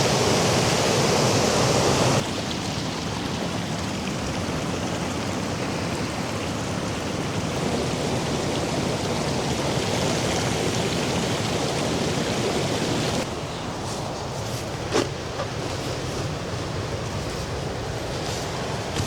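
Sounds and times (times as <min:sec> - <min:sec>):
heavy rain: 0:00.0 - 0:19.0
waterfall rushing: 0:00.0 - 0:19.0.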